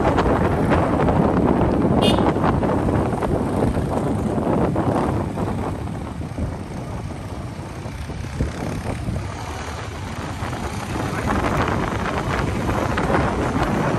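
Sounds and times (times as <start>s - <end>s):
motorcycle engine: 0.0s - 13.9s
wind buffeting microphone: 0.0s - 13.9s.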